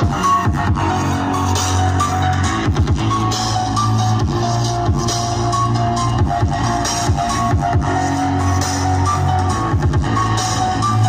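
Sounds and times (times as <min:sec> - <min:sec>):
bass-boosted dubstep music: 0:00.0 - 0:11.0.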